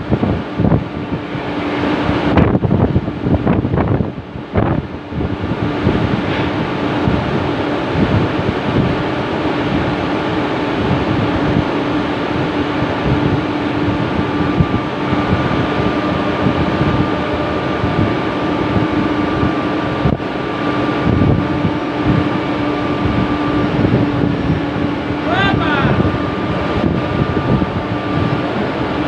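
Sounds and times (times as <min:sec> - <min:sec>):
crane humming: 0:00.0 - 0:29.0
crane whine: 0:00.0 - 0:29.0
wind on microphone: 0:00.0 - 0:29.0.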